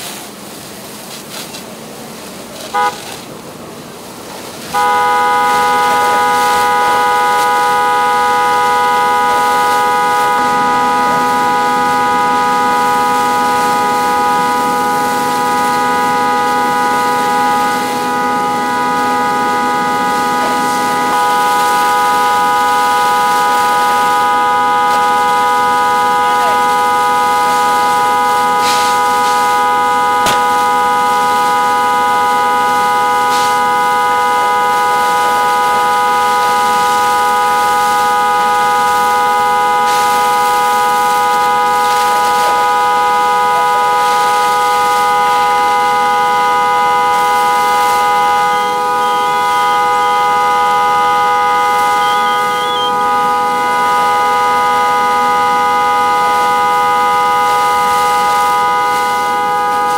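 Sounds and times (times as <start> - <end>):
fire engine pump whining: 0.0 - 59.9.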